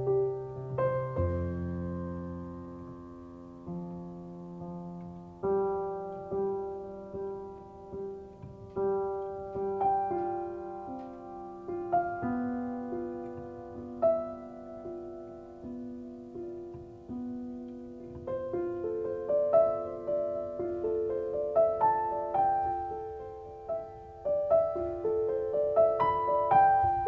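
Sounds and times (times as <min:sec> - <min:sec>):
slow gentle piano: 0:00.0 - 0:27.0.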